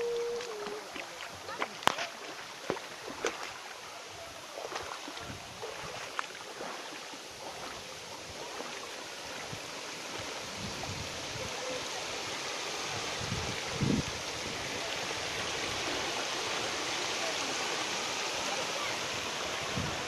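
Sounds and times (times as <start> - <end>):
wading splashes in shallow water: 0.0 - 20.0
water rushing over rocks: 0.0 - 20.0.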